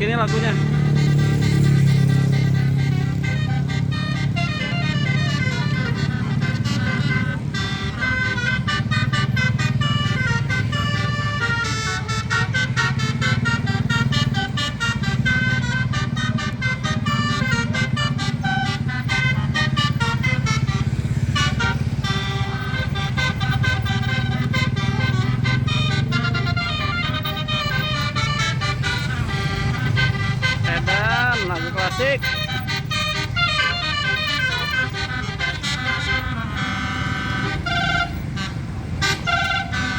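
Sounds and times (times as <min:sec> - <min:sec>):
bus engine humming: 0:00.0 - 0:39.9
musical bus horn playing a tune: 0:00.0 - 0:39.9.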